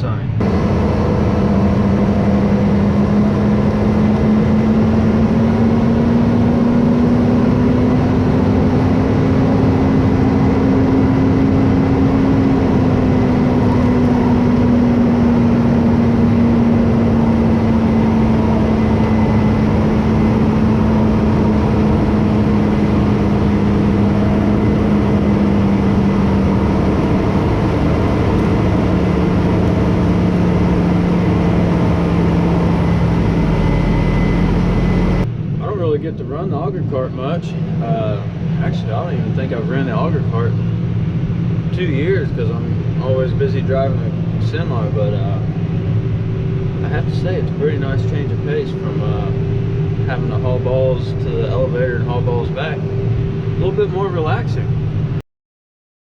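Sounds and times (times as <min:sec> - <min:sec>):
tractor engine running: 0:00.0 - 0:55.2.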